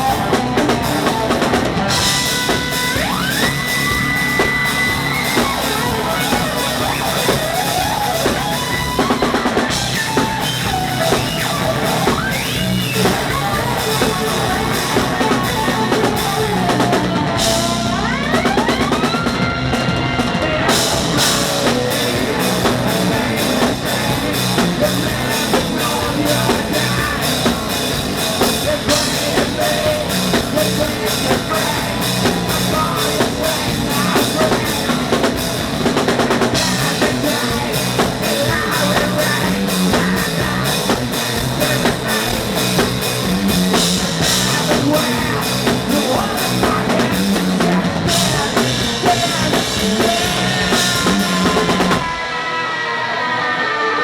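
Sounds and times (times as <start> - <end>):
drum kit fast beat: 0.0 - 52.5
rock band playing live: 0.0 - 54.0.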